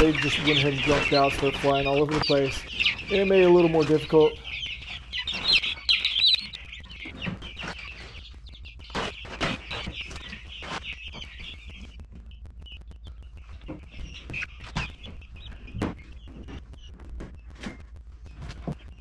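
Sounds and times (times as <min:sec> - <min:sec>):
chicks crying in alarm: 0:00.0 - 0:16.9
chicks peeping: 0:00.0 - 0:19.0.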